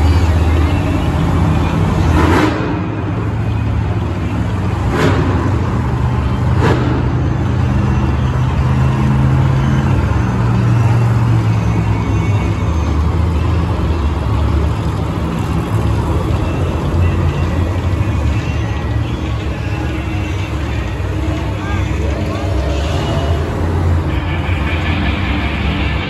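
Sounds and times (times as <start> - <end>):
monster truck engines revving: 0.0 - 26.0.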